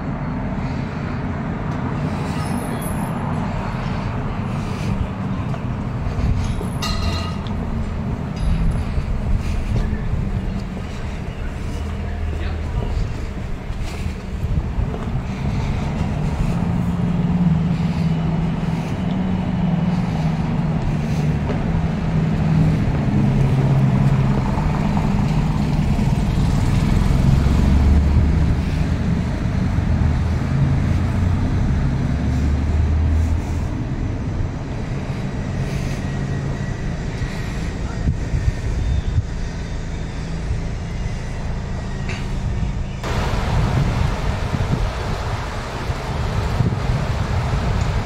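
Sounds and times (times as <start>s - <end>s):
street noise: 0.0s - 48.0s
vehicle engine running: 0.0s - 48.0s.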